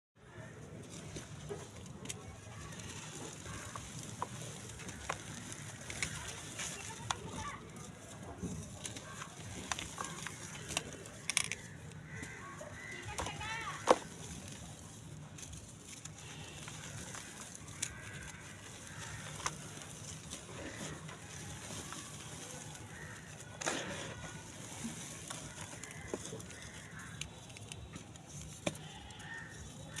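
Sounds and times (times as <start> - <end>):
dry clay crumbling and crunching: 0.2 - 30.0.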